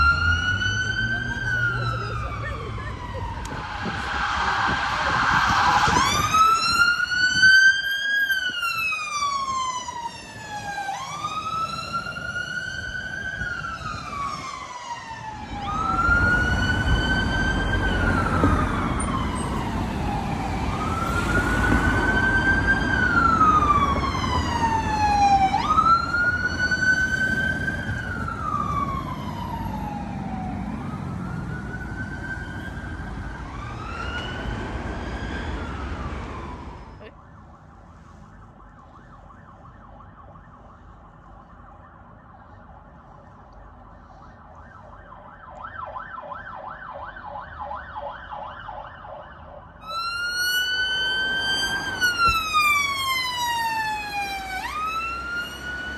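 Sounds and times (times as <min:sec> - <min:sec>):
emergency siren wailing: 0:00.0 - 0:55.9
low road rumble: 0:00.0 - 0:55.9.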